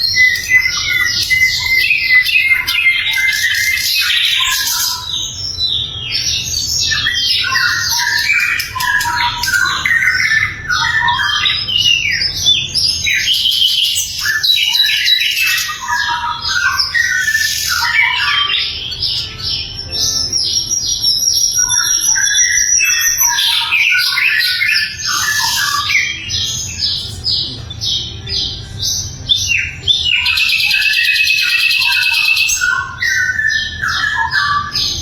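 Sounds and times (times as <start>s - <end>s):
bird singing fast chirping trills: 0.0s - 35.0s.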